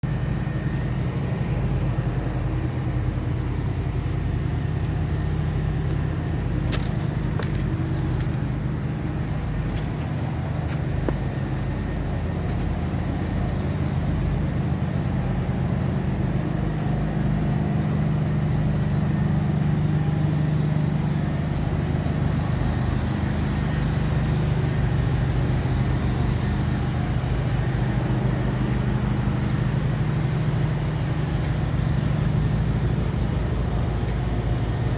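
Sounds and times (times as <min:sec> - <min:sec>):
machinery engine drone: 0:00.0 - 0:34.9.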